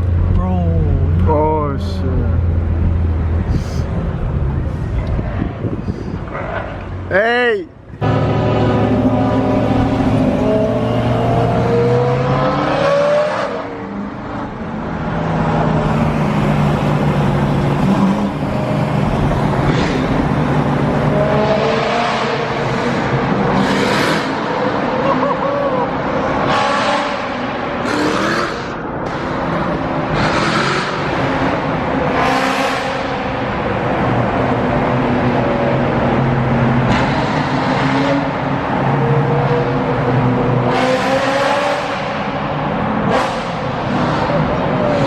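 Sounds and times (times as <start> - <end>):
car engines revving: 7.8 - 45.0.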